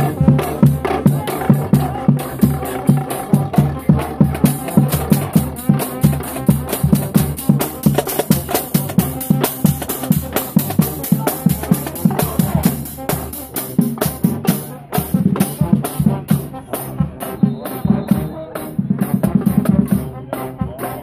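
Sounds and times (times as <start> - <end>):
drumline playing: 0.0 - 21.0.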